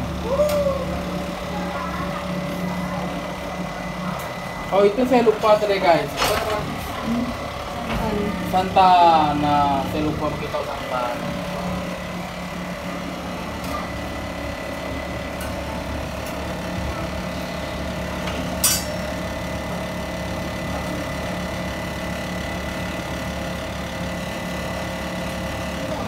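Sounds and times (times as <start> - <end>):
motor hum with high whine: 0.0 - 26.0.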